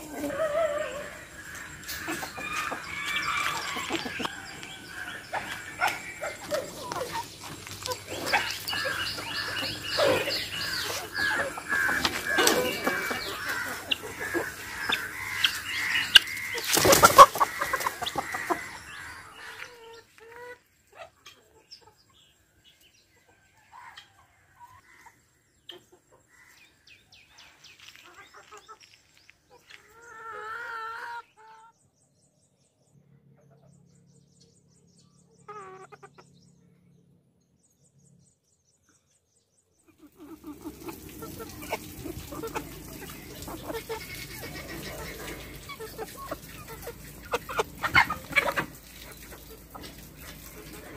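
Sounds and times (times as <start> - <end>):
chickens clucking: 0.0 - 26.6, 27.5 - 31.7, 34.9 - 36.5, 39.8 - 50.9.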